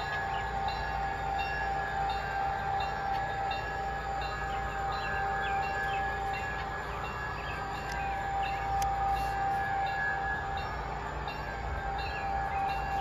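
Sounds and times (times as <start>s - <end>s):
model locomotive whine and rumble: 0.0s - 13.0s.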